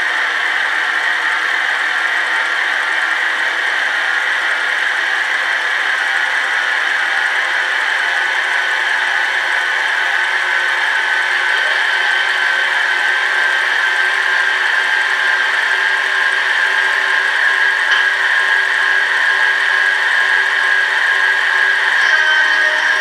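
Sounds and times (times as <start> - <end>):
model train running sounds: 0.0 - 23.0.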